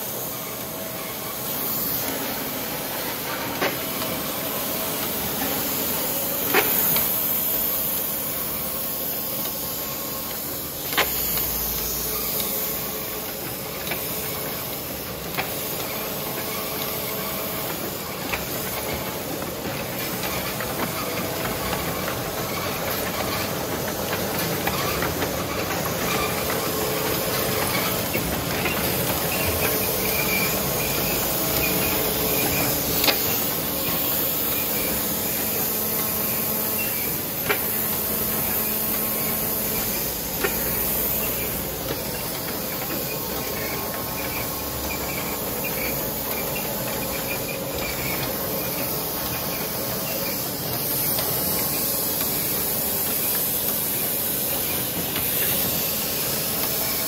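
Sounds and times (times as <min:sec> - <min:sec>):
binding machine humming: 0:00.1 - 0:57.0.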